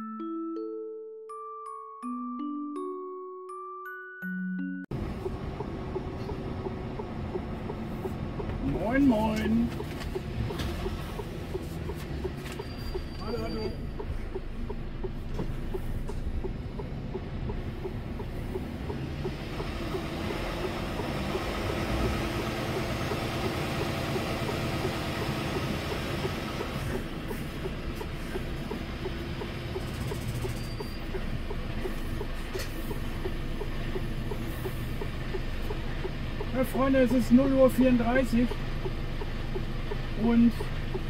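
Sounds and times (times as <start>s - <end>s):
truck engine and road rumble: 4.9s - 41.0s
faint regular ticking: 5.0s - 41.0s.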